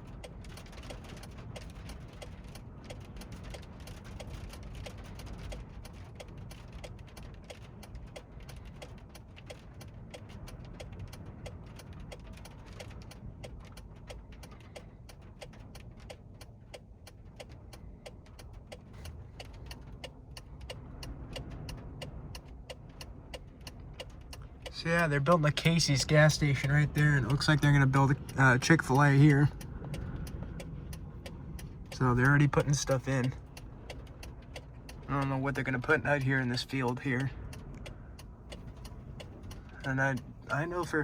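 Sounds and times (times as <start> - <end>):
rain hitting roof and windshield: 0.0 - 41.0
steady light ticking: 0.0 - 41.0
wind buffeting truck cab: 0.0 - 41.0.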